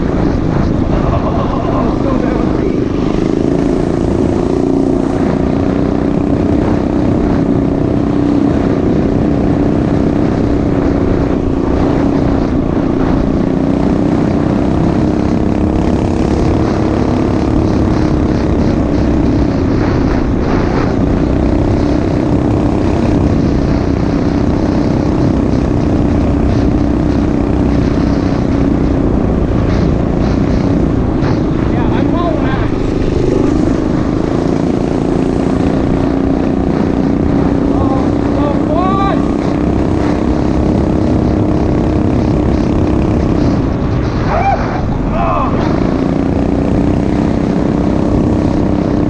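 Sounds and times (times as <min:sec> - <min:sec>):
mini bike engine running: 0:00.0 - 0:49.0.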